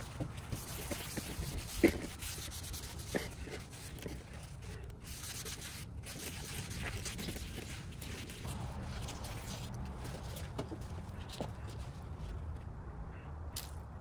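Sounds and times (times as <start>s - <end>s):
hand rubbing and scraping: 0.0s - 12.6s.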